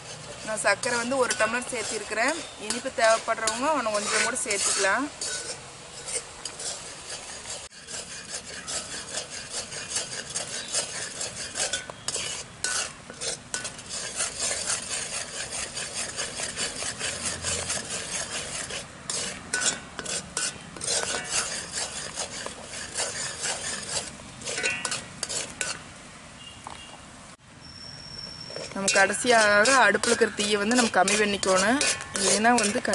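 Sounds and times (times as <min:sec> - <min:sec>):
spoon scraping a pan: 0:00.0 - 0:25.9, 0:28.2 - 0:32.9.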